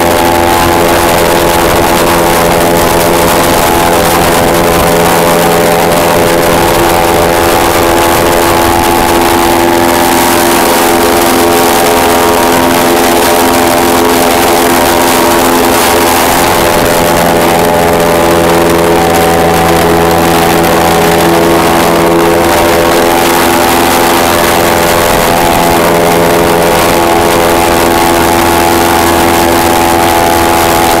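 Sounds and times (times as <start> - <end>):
airboat engine and propeller drone: 0.0 - 31.0.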